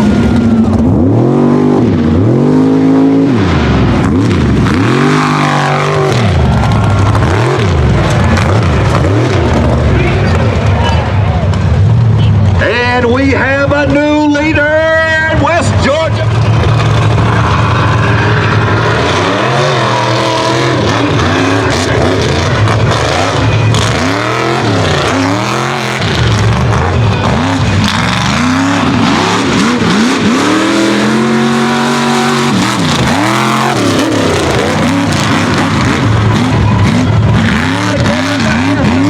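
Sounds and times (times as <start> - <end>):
truck engine revving hard: 0.0 - 13.0, 14.6 - 39.0.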